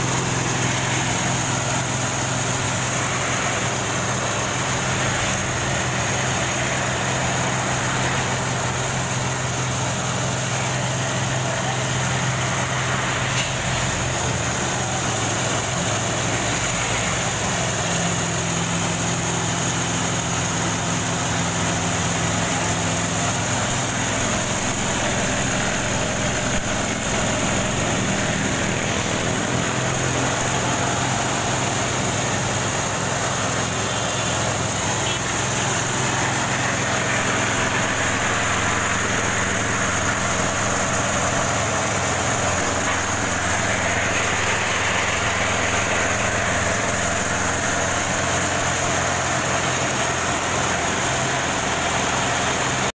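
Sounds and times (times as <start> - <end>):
small engine humming: 0.0 - 52.9.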